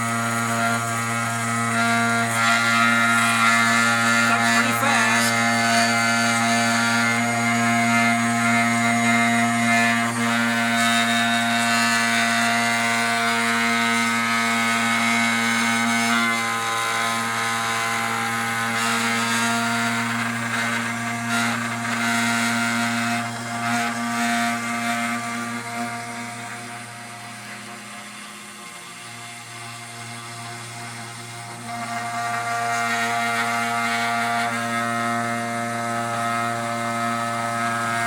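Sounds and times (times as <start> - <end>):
router spindle whine: 0.0 - 38.0.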